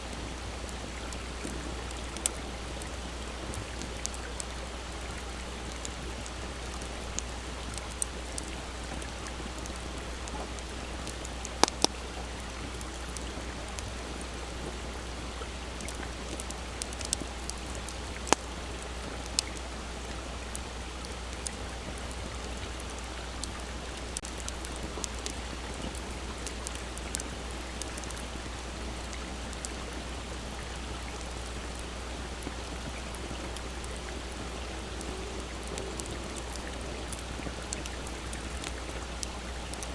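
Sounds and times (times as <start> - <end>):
shallow stream flowing: 0.0 - 39.9
campfire crackling and popping: 0.1 - 39.9.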